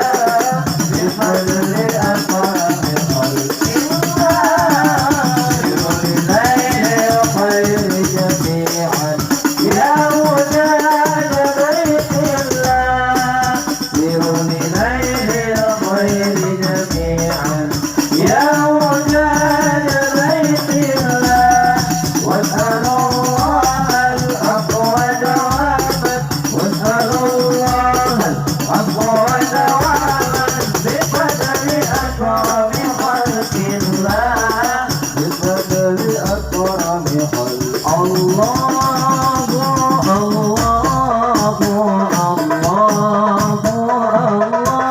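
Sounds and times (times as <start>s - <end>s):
deep drum beat: 0.0s - 44.9s
fast hand percussion: 0.0s - 44.9s.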